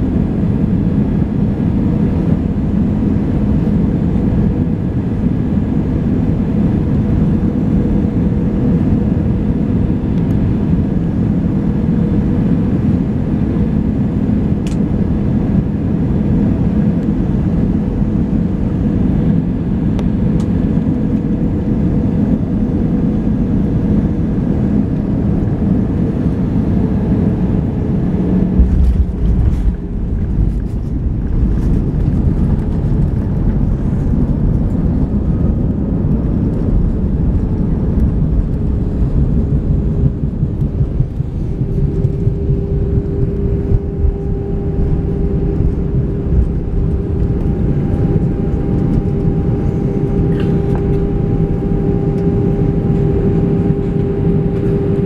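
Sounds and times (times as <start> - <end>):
airplane engine and airflow drone: 0.0 - 55.0
wheels rumbling on runway: 0.0 - 55.0.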